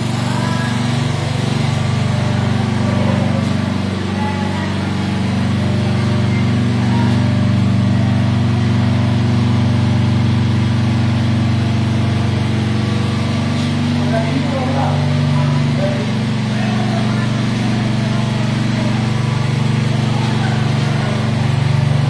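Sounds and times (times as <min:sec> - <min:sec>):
engine running hum: 0:00.0 - 0:22.0.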